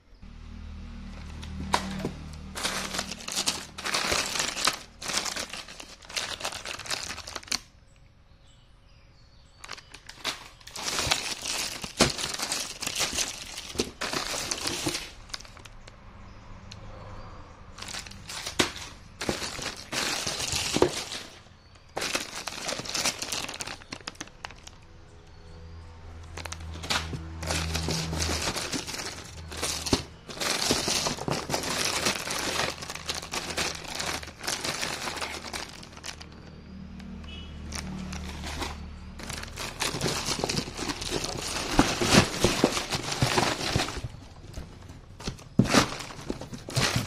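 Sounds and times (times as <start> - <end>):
plastic packets crinkling: 1.1 - 7.8, 9.6 - 15.9, 17.8 - 24.9, 26.2 - 47.0.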